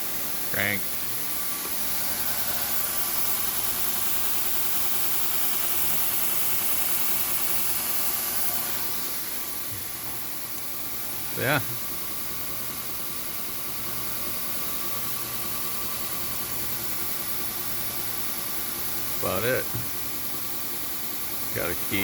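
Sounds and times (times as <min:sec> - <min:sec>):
belt grinder running: 0:00.0 - 0:19.5.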